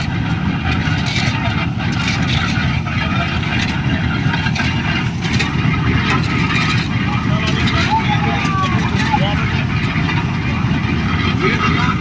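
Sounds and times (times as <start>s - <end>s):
light scrapes and knocks: 0.0s - 10.3s
heavy engine rumbling: 0.0s - 12.0s.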